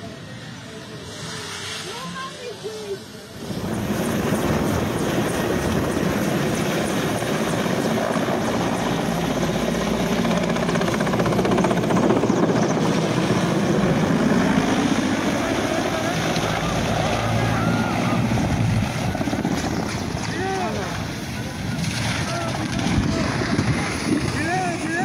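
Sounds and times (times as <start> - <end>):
helicopter rotor beating overhead: 2.0 - 25.0.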